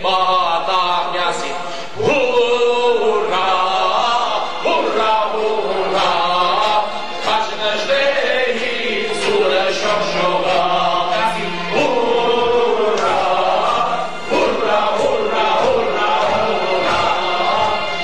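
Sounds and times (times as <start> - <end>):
men singing together: 0.0 - 18.0.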